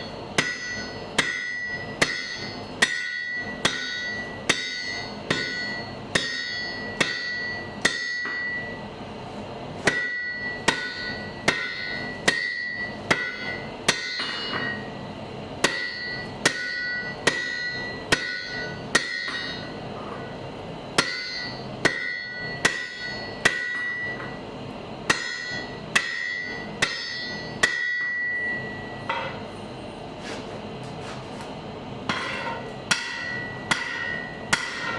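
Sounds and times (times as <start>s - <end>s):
hammer striking an anvil: 0.0s - 8.8s, 9.8s - 14.9s, 15.6s - 19.8s, 21.0s - 24.4s, 25.1s - 29.4s, 32.1s - 34.9s.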